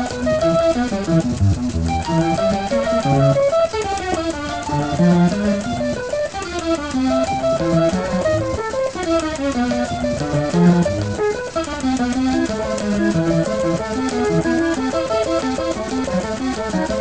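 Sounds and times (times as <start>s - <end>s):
floppy disk drives playing music: 0.0s - 17.0s.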